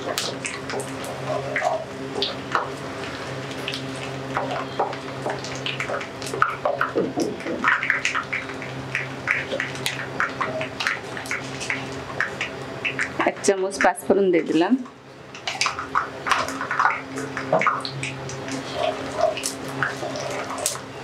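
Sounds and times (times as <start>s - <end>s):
crackles and pops: 0.0s - 14.0s, 14.8s - 21.0s
steady low hum: 0.0s - 21.0s.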